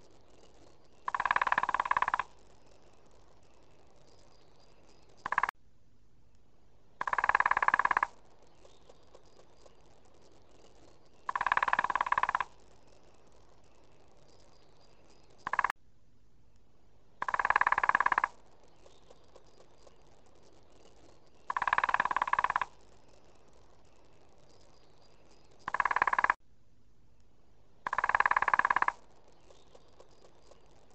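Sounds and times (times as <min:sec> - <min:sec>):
woodpecker drumming: 0:00.0 - 0:05.5, 0:07.0 - 0:15.8, 0:17.2 - 0:26.4, 0:27.8 - 0:30.9.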